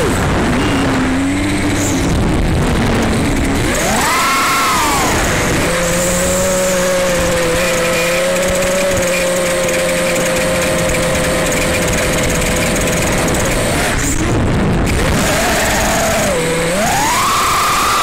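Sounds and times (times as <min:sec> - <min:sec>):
drone propellers whining: 0:00.0 - 0:18.0.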